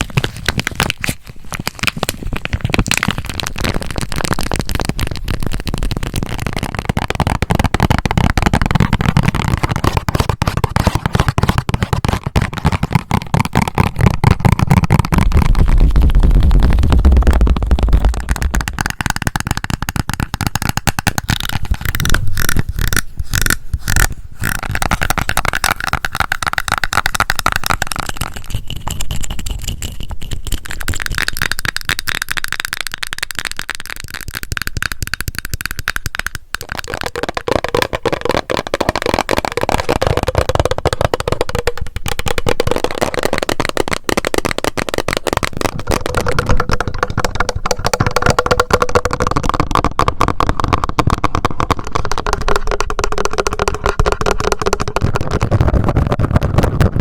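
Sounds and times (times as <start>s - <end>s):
fingernail tapping and scratching: 0.0s - 16.2s, 17.4s - 57.0s.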